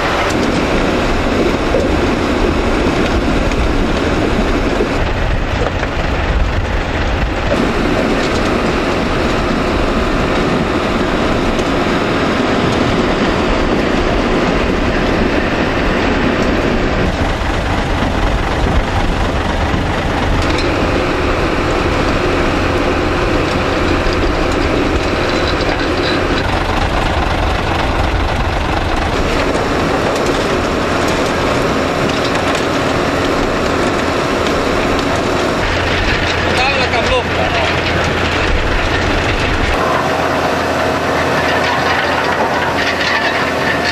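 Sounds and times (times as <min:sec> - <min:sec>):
chain conveyor rattling: 0:00.0 - 0:43.9
engine running: 0:00.0 - 0:43.9.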